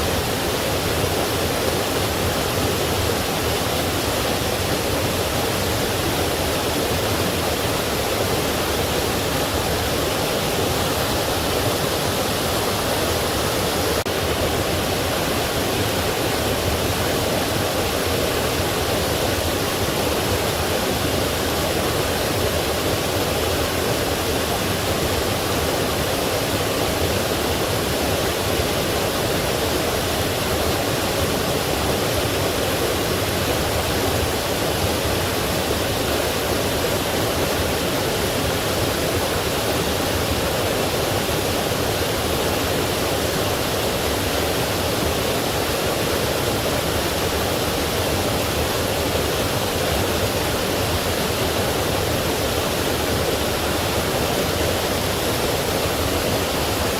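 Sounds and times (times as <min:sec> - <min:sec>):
stream rushing: 0:00.0 - 0:56.9.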